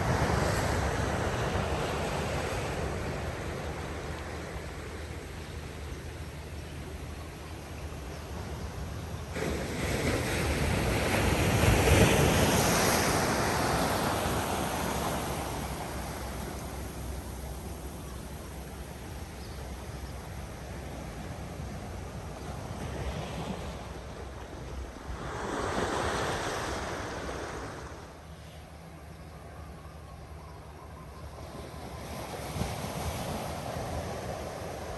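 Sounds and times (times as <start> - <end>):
steady wash of sea: 0.0 - 34.9.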